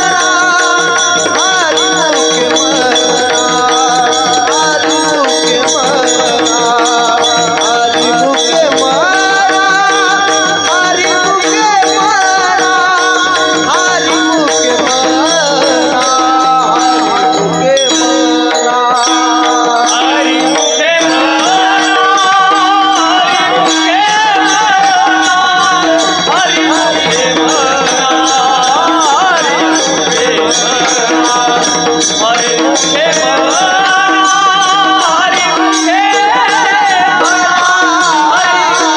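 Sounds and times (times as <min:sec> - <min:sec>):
hand drum playing: 0:00.0 - 0:38.9
man singing: 0:00.0 - 0:38.9.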